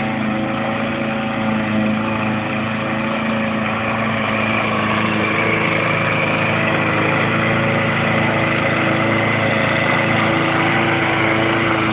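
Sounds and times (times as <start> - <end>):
lawn mower engine running: 0.0 - 11.9.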